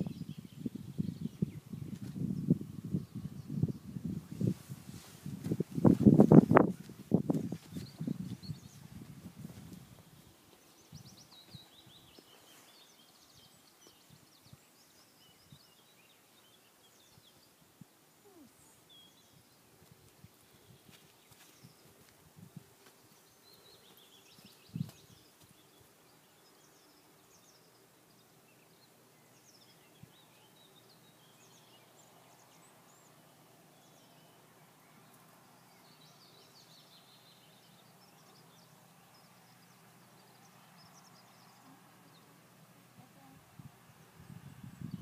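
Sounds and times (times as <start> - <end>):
distant songbirds chirping: 0.0 - 45.0.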